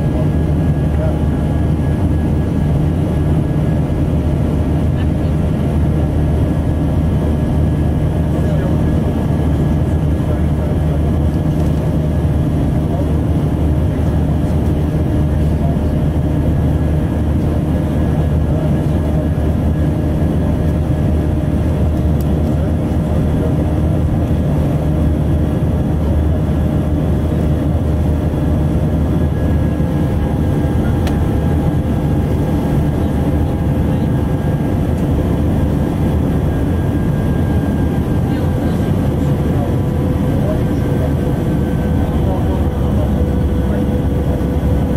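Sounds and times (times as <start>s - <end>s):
jet engine rumble and rushing air: 0.0s - 44.9s.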